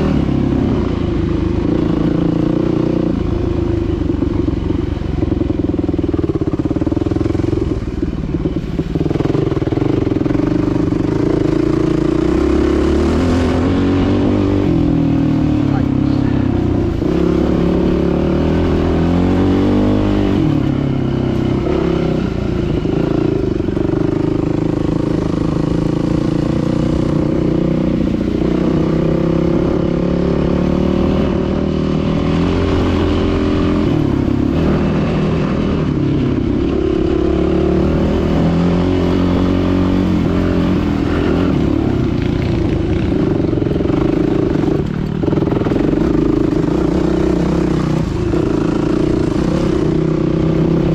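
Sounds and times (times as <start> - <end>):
dirt bike engine revving: 5.2 - 50.9.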